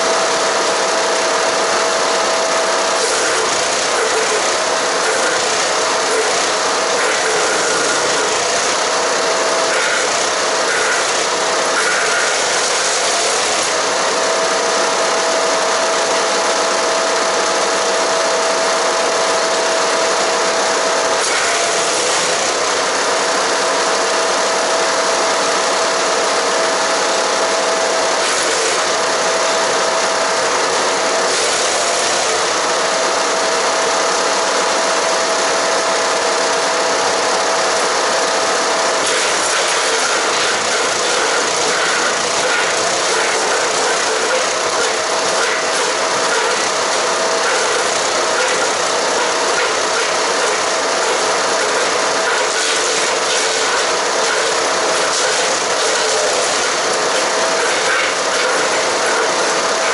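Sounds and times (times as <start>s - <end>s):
constant whine: 0.0s - 59.9s
wood chipper grinding branches: 0.0s - 59.9s.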